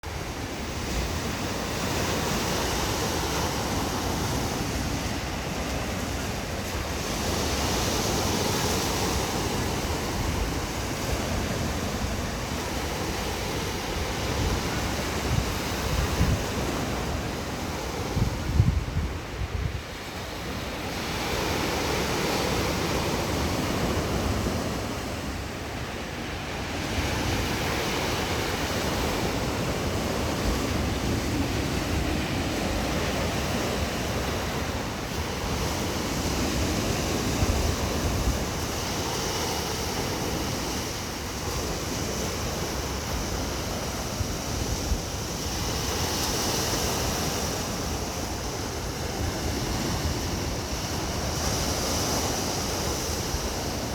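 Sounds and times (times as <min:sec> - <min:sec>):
waves breaking on shore: 0:00.0 - 0:53.9.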